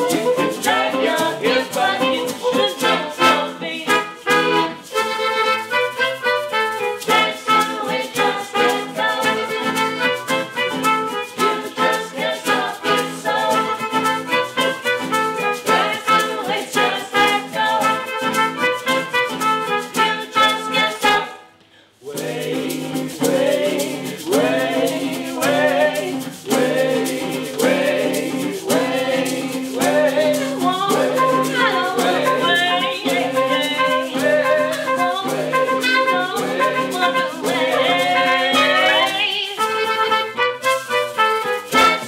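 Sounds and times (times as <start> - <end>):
accordion: 0.0 - 21.4, 22.2 - 42.0
person singing: 0.0 - 21.4, 22.0 - 42.0
shaker: 0.0 - 21.4, 22.0 - 42.0
violin: 0.0 - 21.4, 22.2 - 42.0
trumpet: 0.0 - 21.6, 22.4 - 42.0
acoustic guitars: 0.0 - 42.0.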